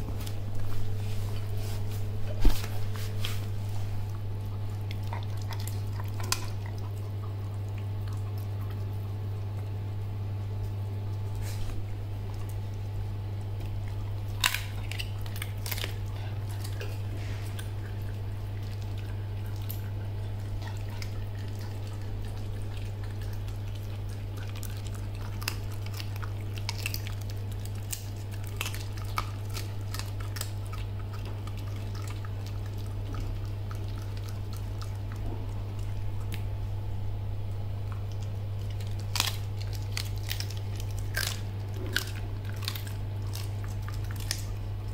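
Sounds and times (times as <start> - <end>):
puppy chewing and crunching bone: 0.0 - 44.9
steady low hum: 0.0 - 44.9.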